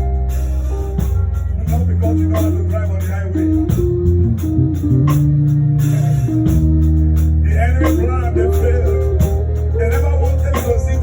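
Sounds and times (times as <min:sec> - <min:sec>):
sustained bass notes: 0:00.0 - 0:11.0
wavering melody line: 0:00.0 - 0:11.0
worship band music: 0:00.0 - 0:11.0.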